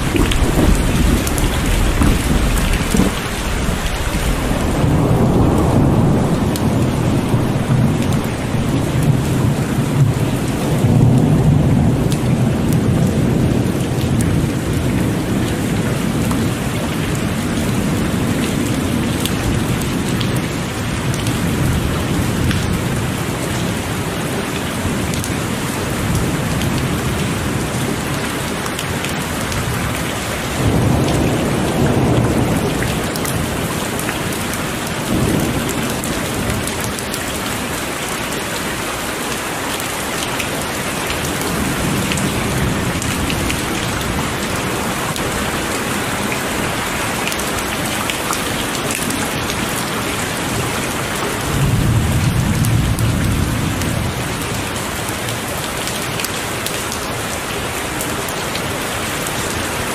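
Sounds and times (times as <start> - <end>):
thunder rumbling: 0.0 - 39.5, 40.1 - 55.5
heavy rain falling: 0.0 - 59.9.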